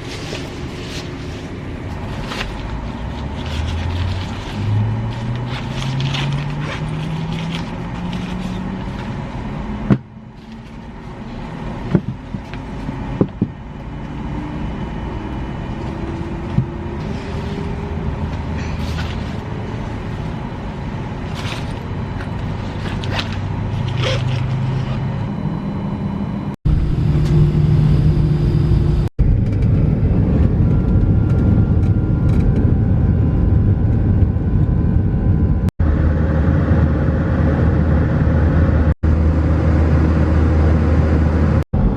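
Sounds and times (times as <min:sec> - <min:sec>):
low rumbling of vehicle: 0:00.0 - 0:41.9
vehicle engine speeding up: 0:01.8 - 0:10.7, 0:12.7 - 0:41.9.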